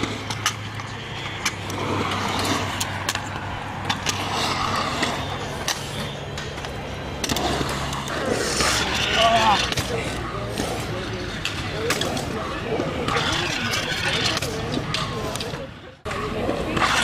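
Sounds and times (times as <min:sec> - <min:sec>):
scooter clicks and knocks: 0:00.0 - 0:17.0
scooter wheels rolling on concrete: 0:00.0 - 0:17.0.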